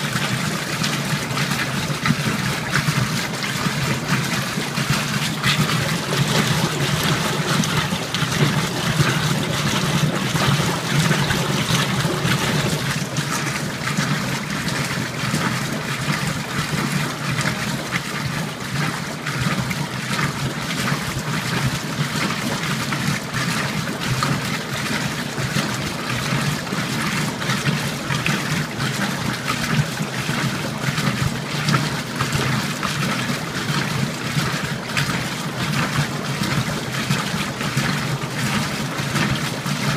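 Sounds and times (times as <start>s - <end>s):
washing machine hum: 0.0s - 39.9s
water sloshing in washer: 0.0s - 39.9s.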